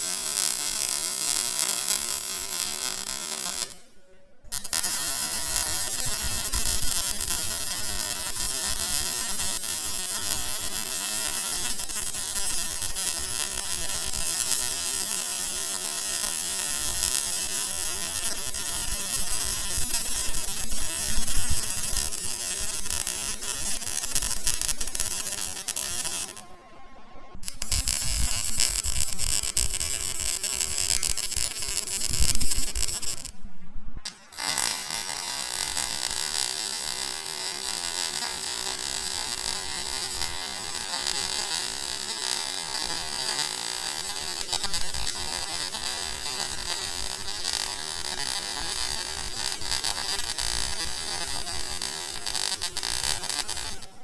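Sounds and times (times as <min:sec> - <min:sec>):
welding arc buzzing crackle: 0:00.0 - 0:26.7, 0:27.3 - 0:33.4, 0:34.0 - 0:54.0.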